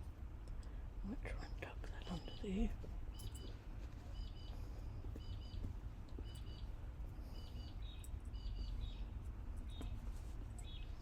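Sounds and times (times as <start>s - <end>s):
low steady hum: 0.0s - 11.0s
bird chirping: 1.4s - 10.0s, 10.6s - 11.0s.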